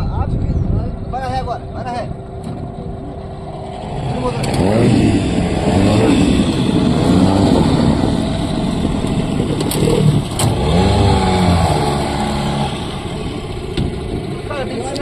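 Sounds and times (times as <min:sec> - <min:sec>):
outboard motor running: 0:01.6 - 0:15.0.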